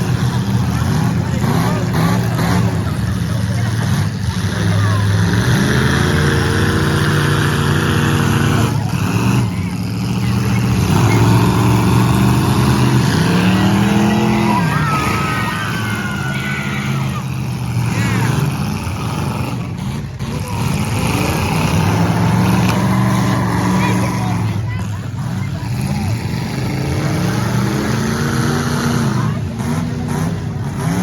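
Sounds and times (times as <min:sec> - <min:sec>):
car engines revving: 0:00.0 - 0:31.0
tire squeals: 0:00.0 - 0:31.0.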